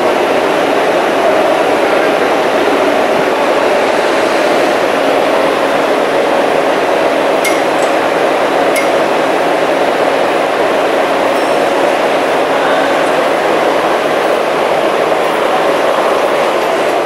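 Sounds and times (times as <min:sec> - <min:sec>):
subway station noise: 0:00.0 - 0:17.0.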